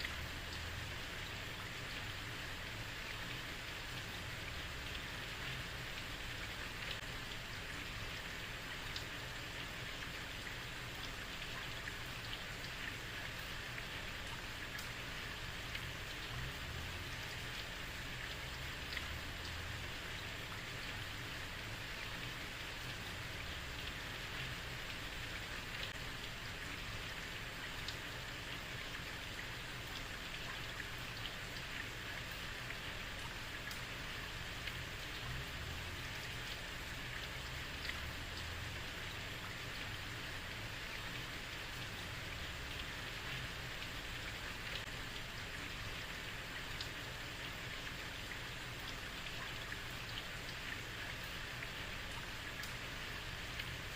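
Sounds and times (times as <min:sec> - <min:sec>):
heavy rain on a street: 0:00.0 - 0:53.9.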